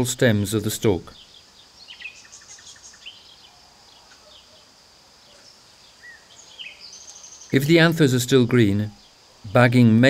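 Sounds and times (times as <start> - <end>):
high insect hum: 0.0 - 10.0.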